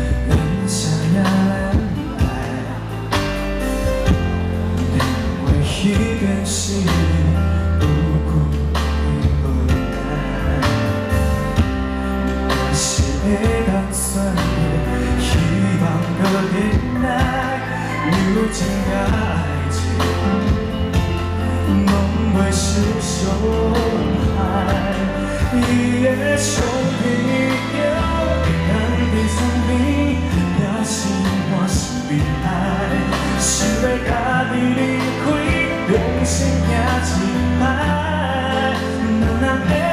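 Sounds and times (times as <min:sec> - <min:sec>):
heavy bass: 0:00.0 - 0:39.9
live pop song with singer: 0:00.0 - 0:39.9.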